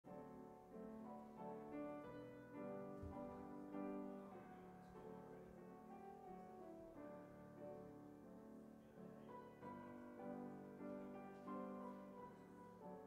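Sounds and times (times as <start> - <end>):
quiet piano music: 0.0 - 13.0.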